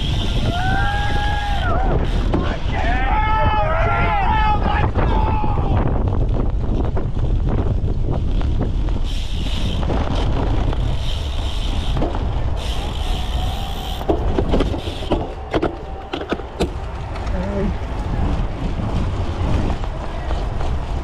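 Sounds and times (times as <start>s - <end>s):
bike rattling over bumps: 0.0s - 21.0s
wind rumble on microphone: 0.0s - 21.0s.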